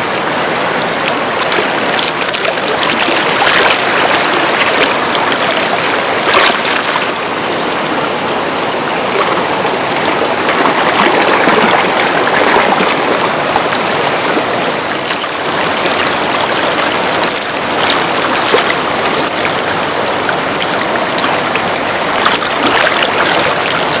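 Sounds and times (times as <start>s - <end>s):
river rushing over rocks: 0.0s - 24.0s
small water splashes: 0.0s - 24.0s.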